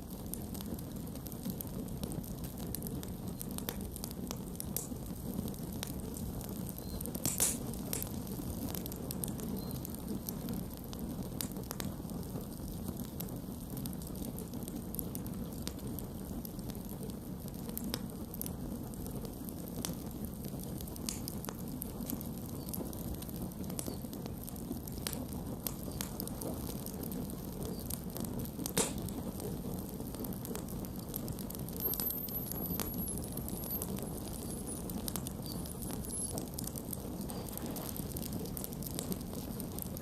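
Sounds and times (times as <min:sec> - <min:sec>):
burning wood crackling and popping: 0:00.0 - 0:40.0
low rumble of flames: 0:00.0 - 0:40.0.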